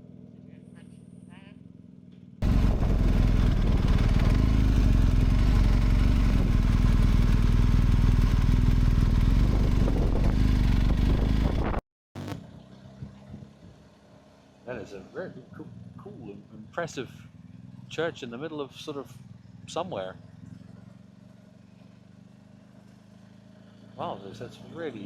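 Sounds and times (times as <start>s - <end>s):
motorcycle engine running: 0.0s - 25.0s
motorcycle riding noise: 0.0s - 25.0s.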